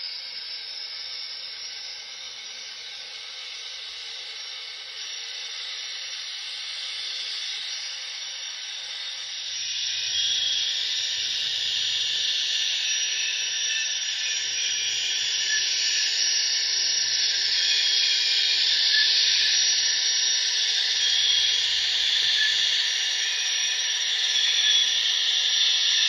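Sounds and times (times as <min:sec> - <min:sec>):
jet-like rushing hiss with whine: 0:00.0 - 0:26.0.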